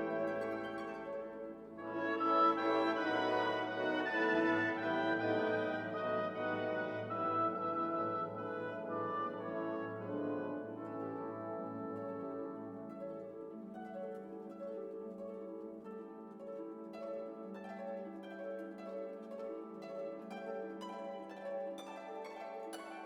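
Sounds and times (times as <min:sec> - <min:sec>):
plucked harp-like notes: 0:00.0 - 0:23.0.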